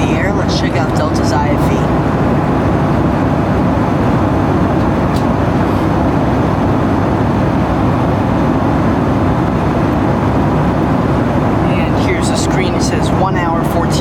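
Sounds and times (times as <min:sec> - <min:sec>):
airplane engines rushing: 0:00.0 - 0:14.0.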